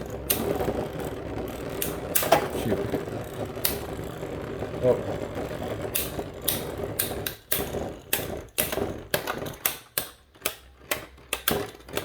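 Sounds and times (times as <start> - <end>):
plastic spinning tops clacking: 0.0 - 12.0.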